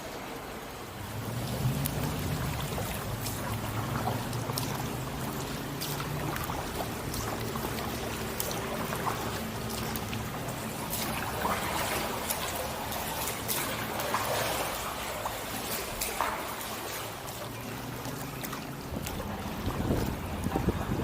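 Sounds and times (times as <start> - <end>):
water splashing off paddle: 1.0 - 21.0.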